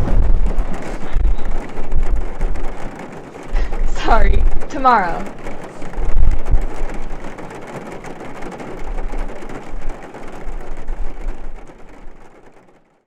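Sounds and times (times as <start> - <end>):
rain pattering on window glass: 0.0 - 13.0.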